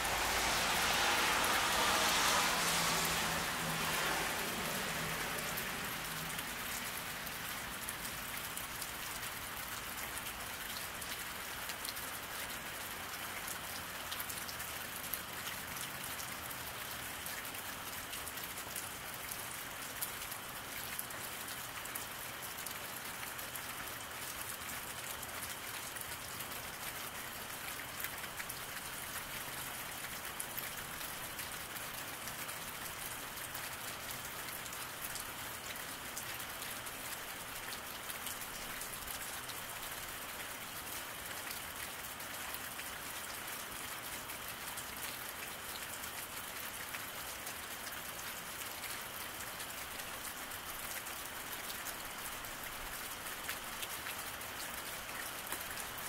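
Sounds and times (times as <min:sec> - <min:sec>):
rain on paved road: 0:00.0 - 0:56.0.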